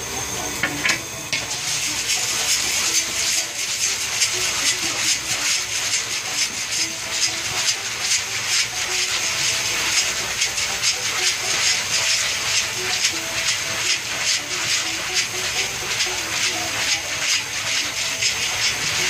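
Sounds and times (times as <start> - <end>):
popcorn kernels sizzling in oil: 0.0 - 19.0.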